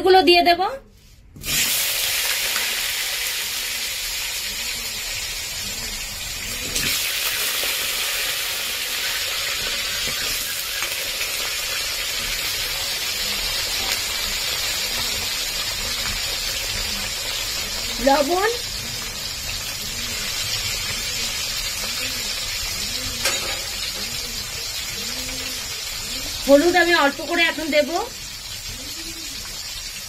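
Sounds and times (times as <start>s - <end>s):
potatoes sizzling in hot oil: 1.4s - 30.0s.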